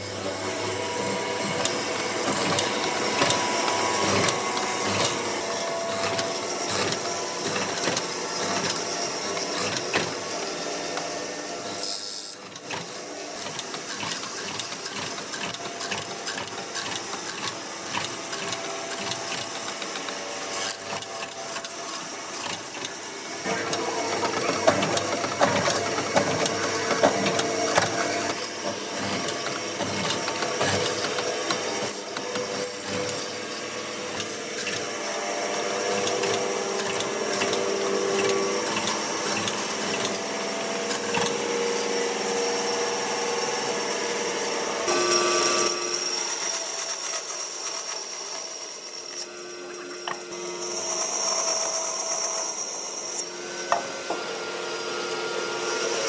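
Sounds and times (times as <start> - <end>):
power tools working wood: 0.0 - 56.0.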